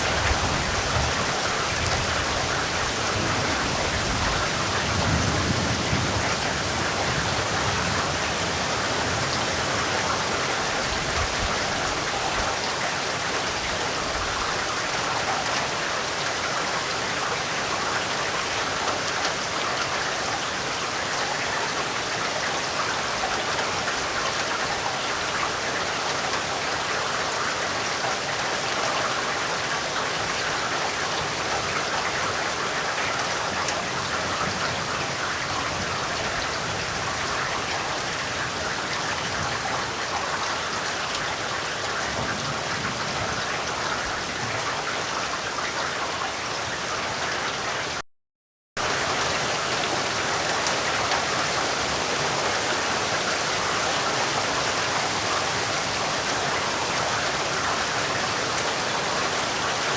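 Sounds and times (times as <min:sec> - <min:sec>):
steady rain falling: 0:00.0 - 0:48.0, 0:48.8 - 0:59.9.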